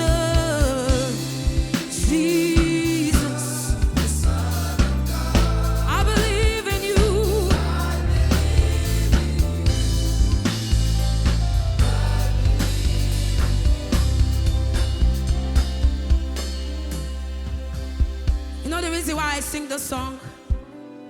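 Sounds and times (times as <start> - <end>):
drum kit beat: 0.0 - 19.0
bass guitar: 0.0 - 19.5.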